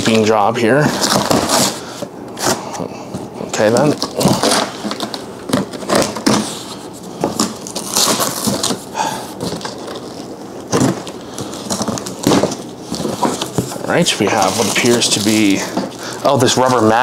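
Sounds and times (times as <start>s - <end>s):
cardboard scraping and crinkling: 0.0s - 17.0s.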